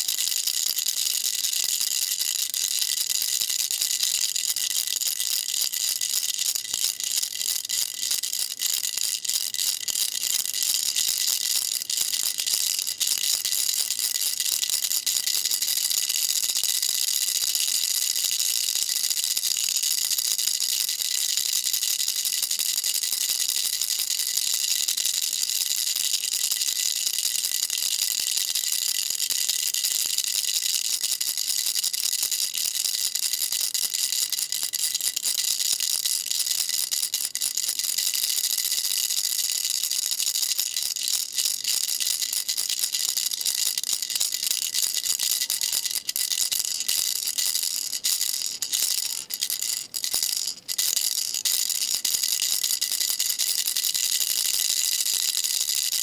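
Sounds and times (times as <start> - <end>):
baby rattle shaken: 0.0 - 56.0.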